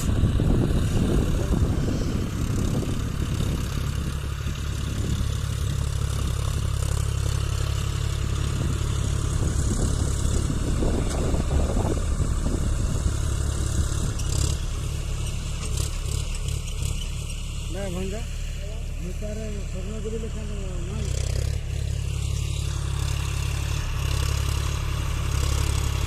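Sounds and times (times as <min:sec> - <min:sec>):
tractor diesel engine droning: 0:00.0 - 0:26.0.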